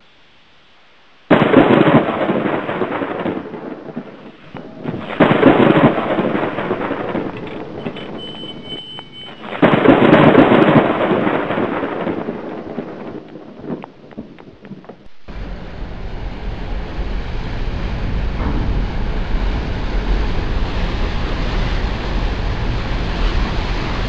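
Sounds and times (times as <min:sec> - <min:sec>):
loud crashing rumbles: 0:01.3 - 0:13.8, 0:14.8 - 0:24.0.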